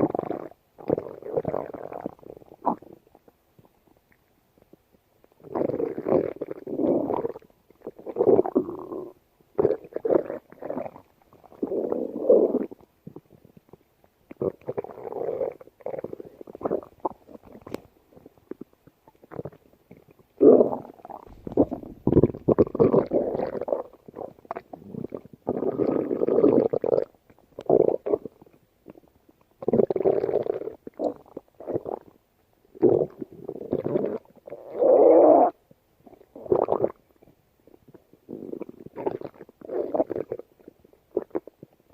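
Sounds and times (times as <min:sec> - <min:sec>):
stomach growling: 0:00.0 - 0:41.8.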